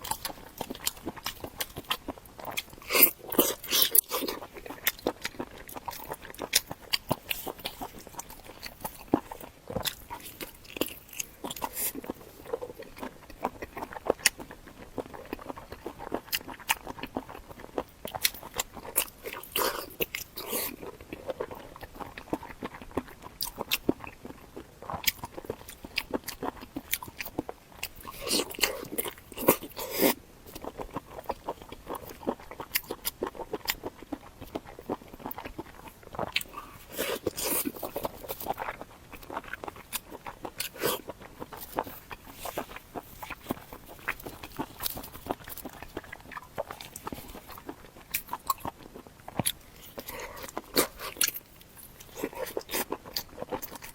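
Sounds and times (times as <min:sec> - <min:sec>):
crunchy chewing of food: 0:00.0 - 0:53.9.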